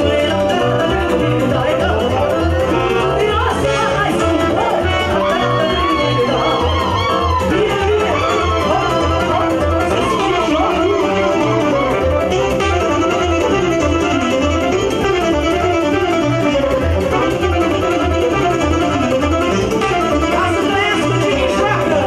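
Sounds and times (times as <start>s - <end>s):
live folk dance band: 0.0s - 22.0s.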